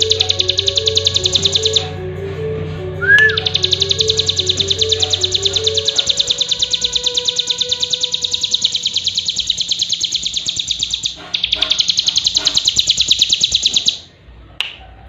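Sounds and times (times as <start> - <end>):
bird singing a fast trill: 0.0 - 1.9, 3.0 - 14.1.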